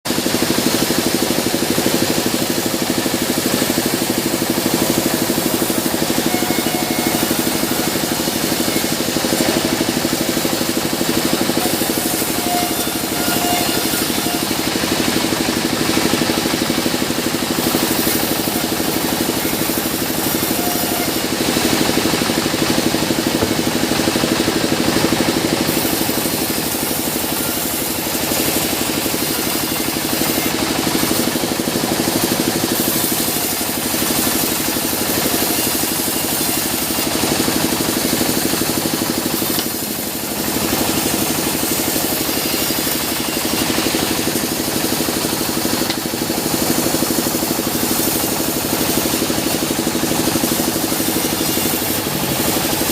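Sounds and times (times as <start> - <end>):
band saw machinery drone: 0.1 - 52.9.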